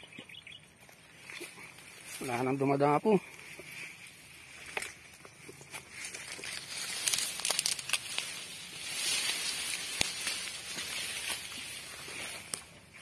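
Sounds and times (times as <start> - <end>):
grass rustling and crackling: 0.0 - 13.0
grass swishing against legs: 0.8 - 13.0.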